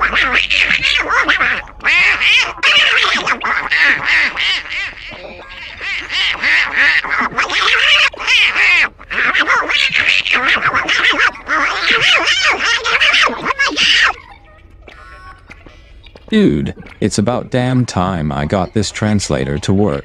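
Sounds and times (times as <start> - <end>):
squawky gibberish voice chattering: 0.0 - 20.0.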